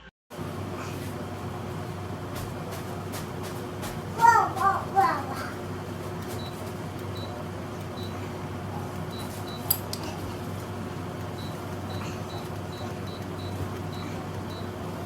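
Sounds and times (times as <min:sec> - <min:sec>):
air conditioner humming: 0:00.3 - 0:15.0.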